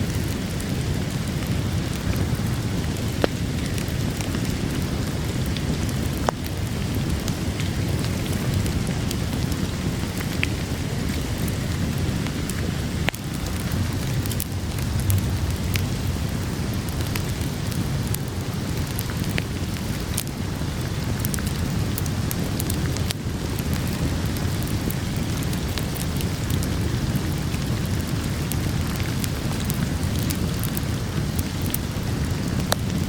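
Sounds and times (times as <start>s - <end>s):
campfire crackling and popping: 0.0s - 33.0s
heavy rain: 0.0s - 33.0s.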